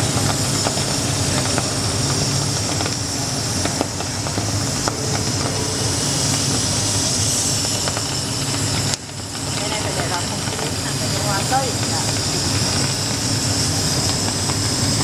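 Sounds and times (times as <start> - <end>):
low hum: 0.0 - 15.0
plasma torch hissing: 0.0 - 15.0.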